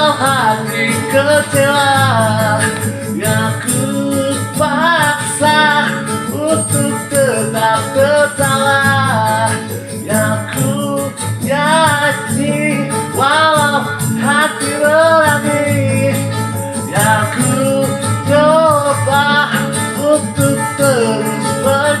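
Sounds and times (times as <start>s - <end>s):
backing band with light percussion: 0.0s - 22.0s
hoarse singing voice: 0.0s - 22.0s.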